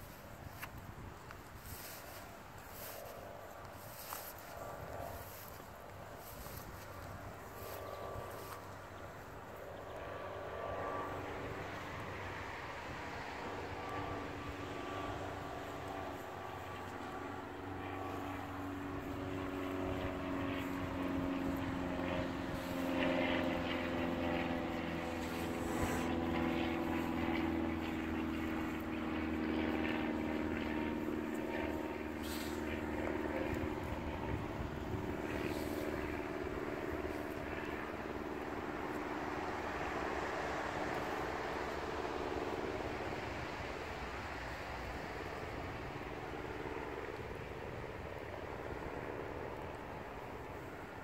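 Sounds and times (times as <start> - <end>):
distant engine droning: 0.0 - 51.0.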